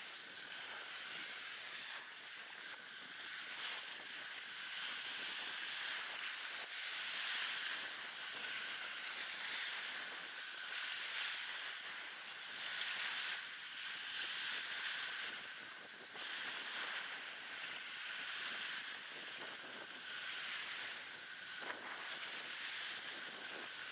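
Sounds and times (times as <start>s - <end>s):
waves washing up a beach: 0.0s - 23.9s
wind noise on microphone: 0.0s - 23.9s.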